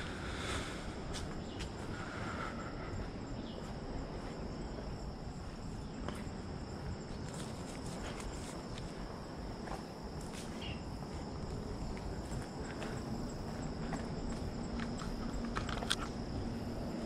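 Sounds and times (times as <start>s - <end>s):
insects buzzing: 0.0s - 17.0s
footsteps on a trail: 0.5s - 17.0s.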